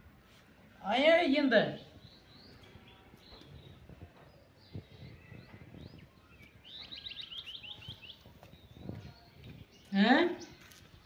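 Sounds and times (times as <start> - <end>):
small birds chirping: 1.4 - 11.0.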